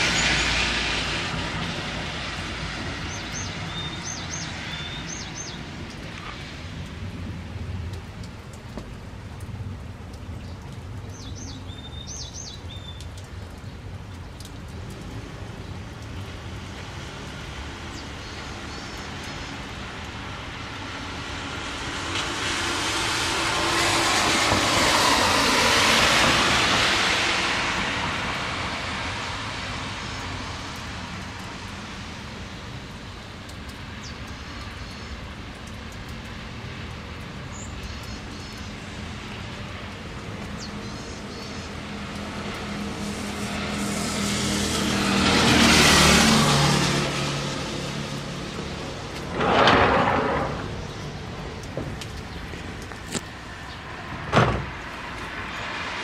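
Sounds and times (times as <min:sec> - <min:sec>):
tyre hiss on wet road: 0:00.0 - 0:07.5, 0:16.3 - 0:56.0.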